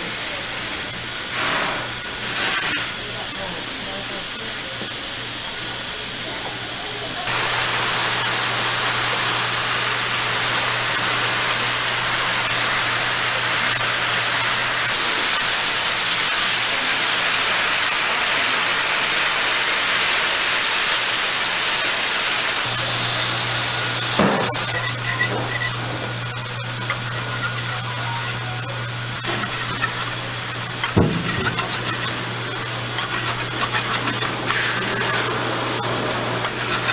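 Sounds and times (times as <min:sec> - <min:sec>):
meat sizzling on a griddle: 0:00.0 - 0:36.9.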